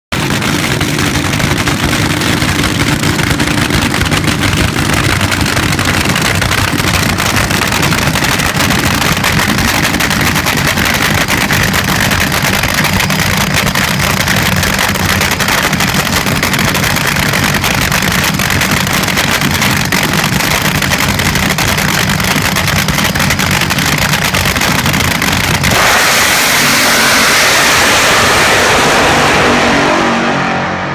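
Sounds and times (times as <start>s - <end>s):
drag race engines idling: 0.1s - 29.9s
engines full-throttle blast: 0.1s - 30.9s.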